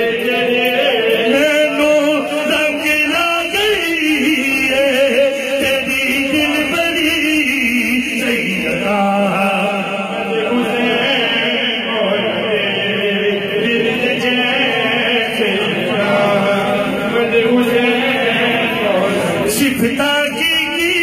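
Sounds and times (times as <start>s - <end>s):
voices chanting together: 0.0s - 7.0s, 8.2s - 19.9s.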